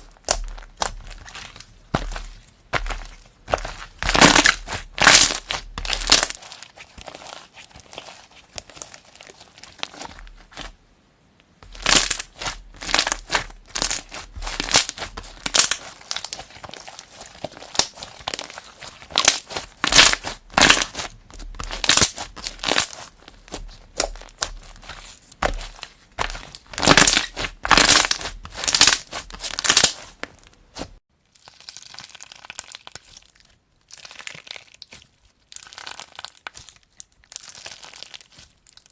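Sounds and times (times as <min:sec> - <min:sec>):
slime crackling and popping: 0:00.0 - 0:10.8, 0:11.6 - 0:38.9
soft slime handling: 0:00.0 - 0:38.9.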